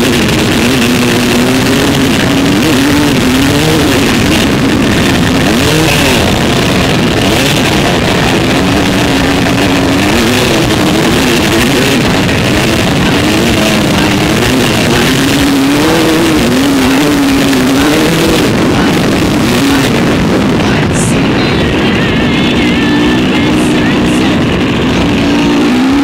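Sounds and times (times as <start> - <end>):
motorcycle engine revving: 0.0 - 26.0
wind and road noise: 0.0 - 26.0.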